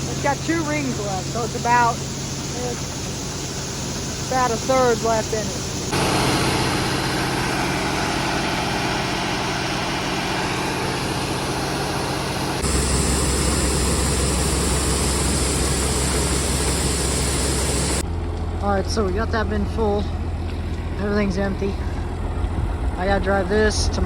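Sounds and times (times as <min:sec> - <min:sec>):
deep loud hum: 0:00.0 - 0:24.0
farm machinery engine running: 0:00.0 - 0:24.0.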